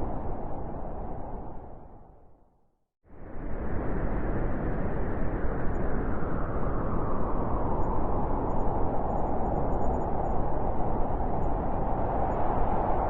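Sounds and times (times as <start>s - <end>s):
blizzard wind howling: 0.0s - 2.5s, 3.1s - 13.0s.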